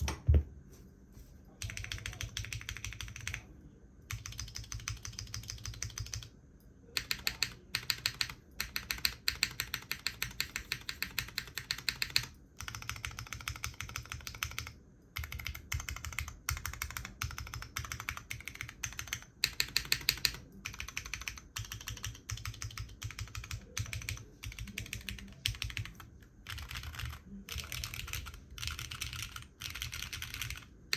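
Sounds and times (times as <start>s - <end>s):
fast typing on mechanical keyboard: 1.6s - 3.5s, 4.1s - 6.3s, 7.0s - 30.9s.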